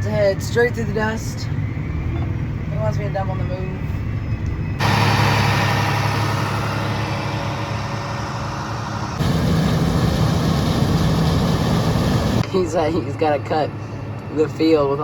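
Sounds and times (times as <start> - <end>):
tractor engine and machinery: 0.0 - 15.0.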